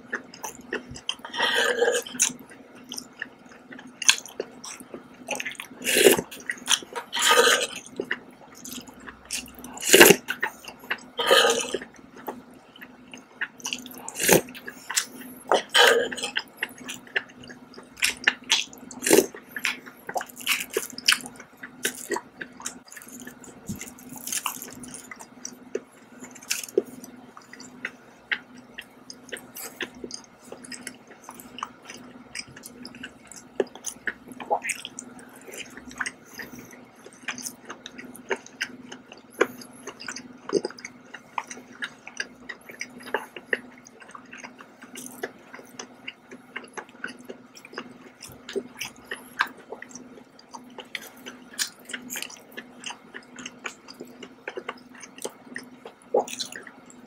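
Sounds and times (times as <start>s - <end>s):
person chewing wetly: 0.0s - 57.0s
steady low hum: 0.0s - 57.0s.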